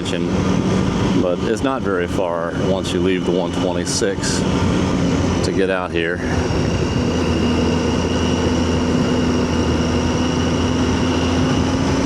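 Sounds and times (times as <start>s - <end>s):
motorcycle engine droning: 0.0s - 12.0s
wind and road noise: 0.0s - 12.0s.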